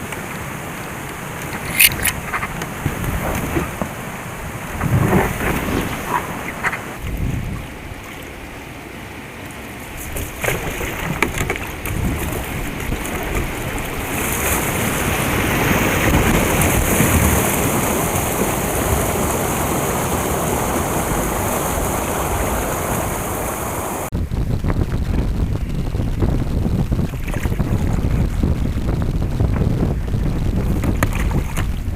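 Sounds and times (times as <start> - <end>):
open water: 0.0 - 31.9
wind: 0.0 - 31.9.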